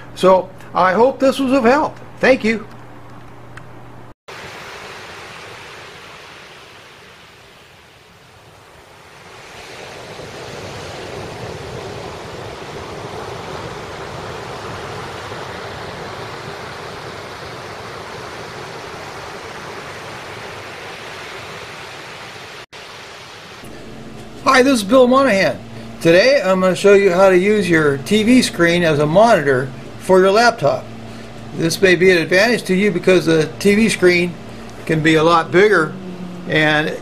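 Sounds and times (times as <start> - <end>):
ocean waves breaking on beach: 4.3 - 37.0.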